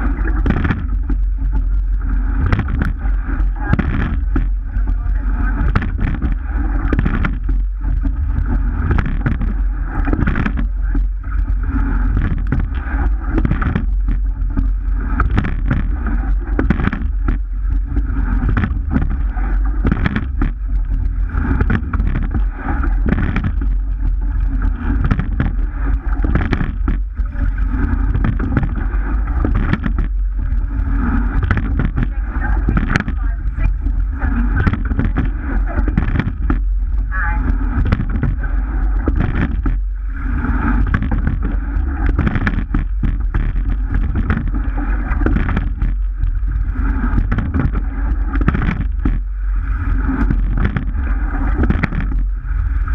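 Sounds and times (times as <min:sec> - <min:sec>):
water rushing along hull: 0:00.0 - 0:52.9
wind rumbling on microphone: 0:00.0 - 0:52.9
rowing knocks: 0:02.3 - 0:11.0, 0:11.7 - 0:39.8, 0:40.4 - 0:46.1, 0:46.8 - 0:49.3.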